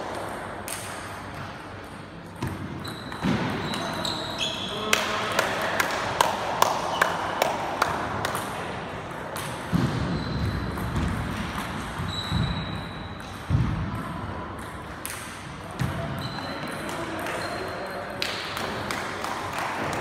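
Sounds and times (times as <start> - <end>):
table tennis ball bouncing: 0.1 - 4.1, 6.3 - 19.0.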